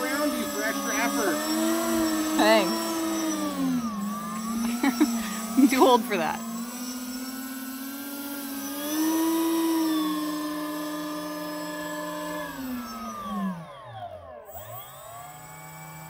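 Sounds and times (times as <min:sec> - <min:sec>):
electric ducted fans whining: 0:00.0 - 0:16.0.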